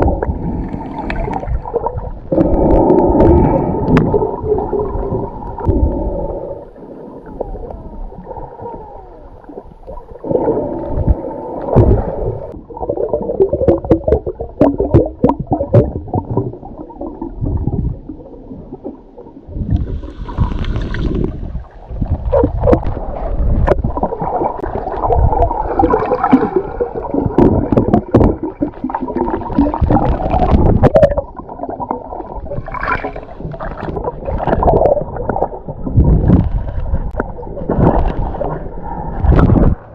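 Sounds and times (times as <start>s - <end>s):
underwater water sloshing: 0.0s - 39.9s.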